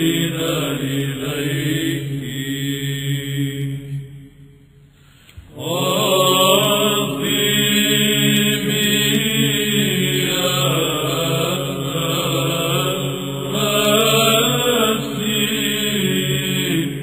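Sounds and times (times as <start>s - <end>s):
choir chanting a hymn: 0.0s - 4.2s, 5.4s - 17.0s
low held vocal drone: 0.0s - 4.6s, 5.4s - 17.0s.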